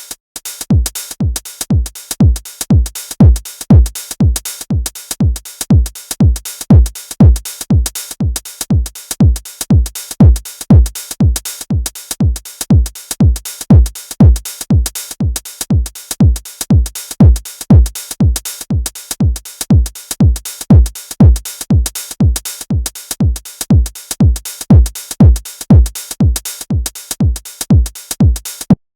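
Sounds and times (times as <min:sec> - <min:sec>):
drum machine kick: 0:00.0 - 0:28.8.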